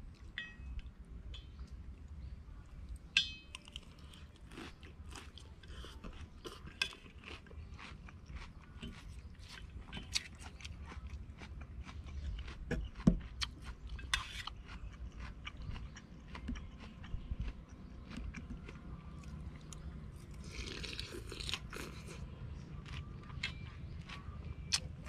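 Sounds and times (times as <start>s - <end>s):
person chewing and crunching: 3.5s - 25.0s.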